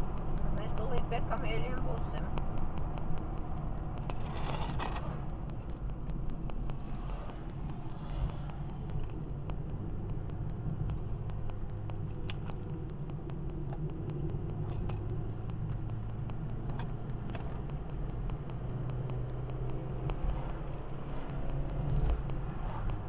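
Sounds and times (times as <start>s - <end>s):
car road noise and engine hum: 0.0s - 23.0s.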